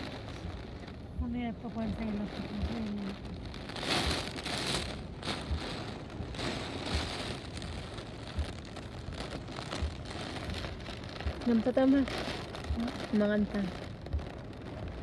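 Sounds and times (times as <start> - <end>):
gusty wind: 0.0 - 15.0
hiss of rain: 0.0 - 15.0
soft low thumps: 0.0 - 15.0.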